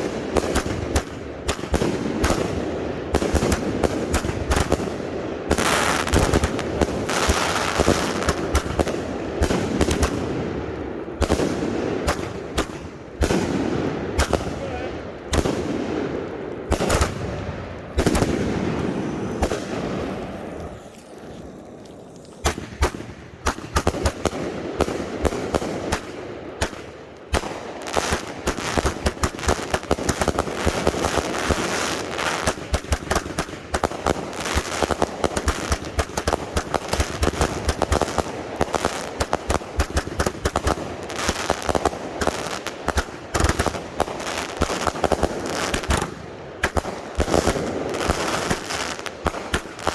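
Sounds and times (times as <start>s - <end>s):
fireworks banging: 0.0s - 49.9s.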